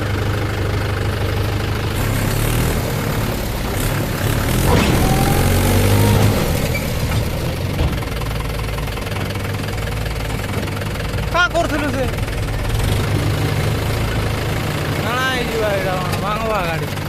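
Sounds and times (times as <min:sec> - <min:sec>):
heavy diesel engines running: 0:00.0 - 0:17.0.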